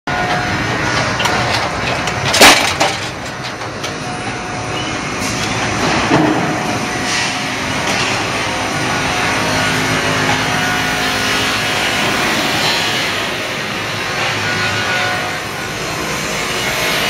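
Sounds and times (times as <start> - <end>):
log conveyor machinery running: 0.1 - 17.0.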